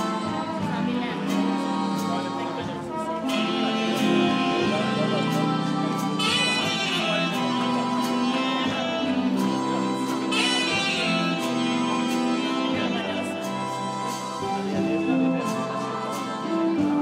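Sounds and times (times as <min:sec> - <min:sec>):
slow waltz music: 0:00.0 - 0:17.0.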